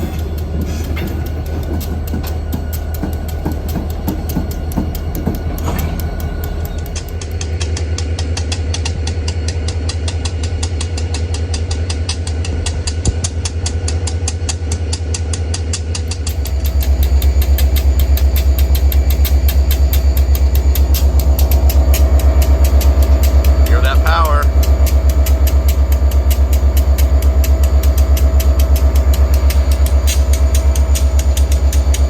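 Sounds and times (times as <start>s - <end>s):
diesel locomotive engine throbbing: 0.0s - 32.0s.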